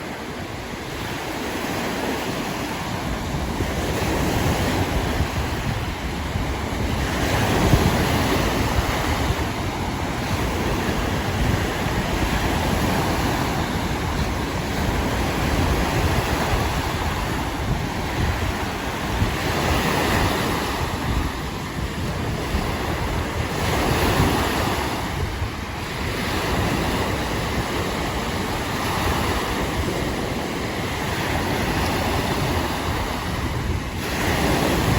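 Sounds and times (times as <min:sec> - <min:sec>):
waves washing onto shore: 0:00.0 - 0:34.9
wind buffeting microphone: 0:00.0 - 0:34.9.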